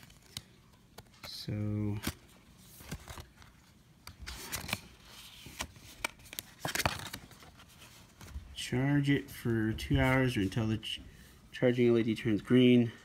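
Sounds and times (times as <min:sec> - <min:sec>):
paper cards rustling: 0:00.0 - 0:10.8.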